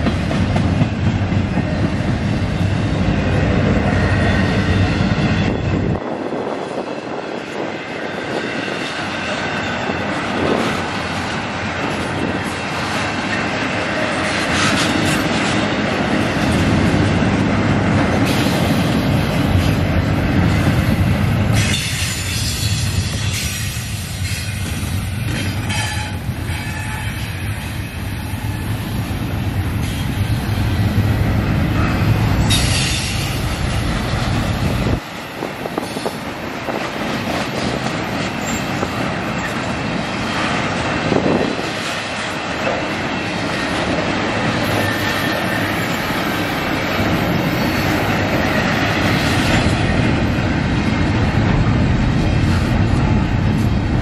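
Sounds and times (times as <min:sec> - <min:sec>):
freight train rumbling past: 0:00.0 - 0:54.0
steel wheels rattling on rails: 0:00.0 - 0:54.0.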